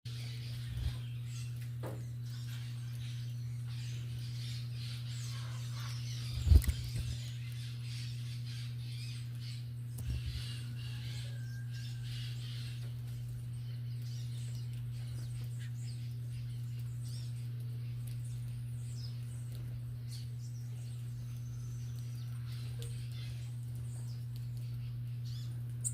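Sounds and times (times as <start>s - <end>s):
small birds chirping: 0.1s - 25.9s
steady low hum: 0.1s - 25.9s.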